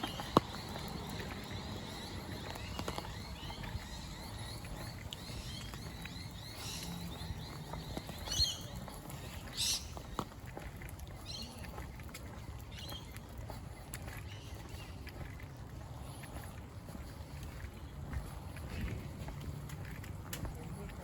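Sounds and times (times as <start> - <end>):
light rain patter: 0.0 - 21.0.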